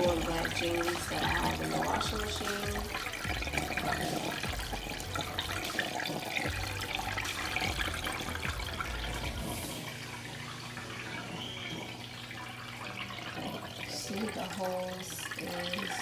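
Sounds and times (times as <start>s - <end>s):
drain water pouring into sink: 0.0s - 16.0s.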